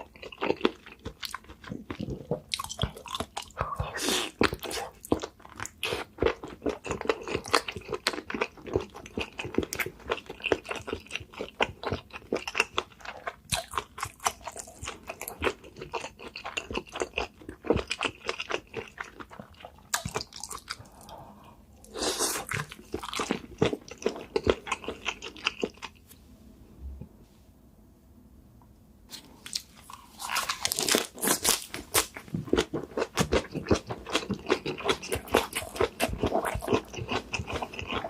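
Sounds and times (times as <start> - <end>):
wet crunching and chewing: 0.0 - 21.2, 21.8 - 26.0, 29.1 - 38.0.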